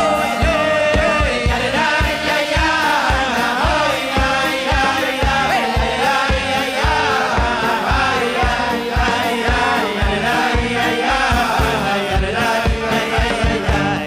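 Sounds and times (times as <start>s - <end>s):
band playing: 0.0s - 14.0s
fast drum beat: 0.0s - 14.0s
men singing together: 0.0s - 14.0s.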